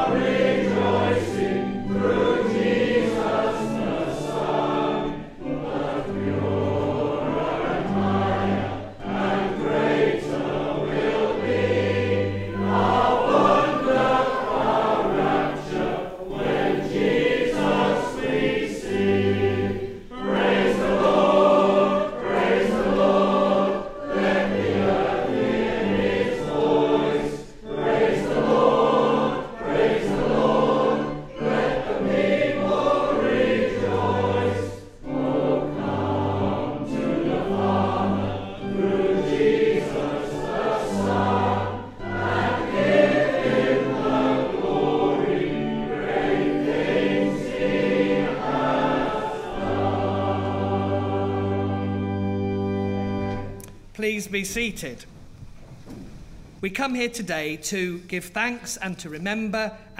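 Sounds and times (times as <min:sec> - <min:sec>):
congregation singing a hymn: 0:00.0 - 0:53.6
low held accompanying notes: 0:00.0 - 0:59.9.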